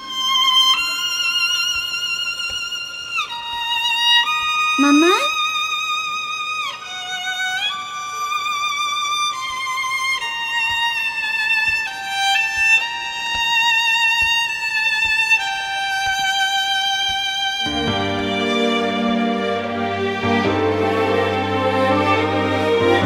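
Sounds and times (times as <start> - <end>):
solo violin slow melody: 0.0 - 23.0.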